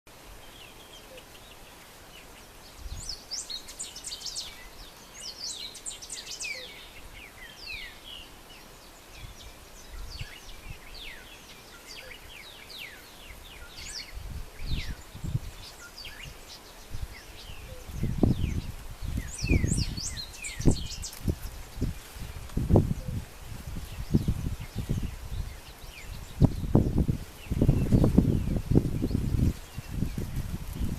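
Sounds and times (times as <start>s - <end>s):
birds chirping: 0.1s - 30.9s
steady background hiss: 0.1s - 30.9s.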